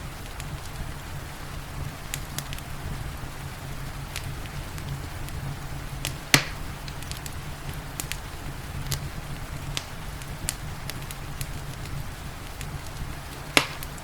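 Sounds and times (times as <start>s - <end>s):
low rumble of flames: 0.0s - 14.0s
soft hiss of rain: 0.0s - 14.0s
wood fire crackling and popping: 0.0s - 14.0s.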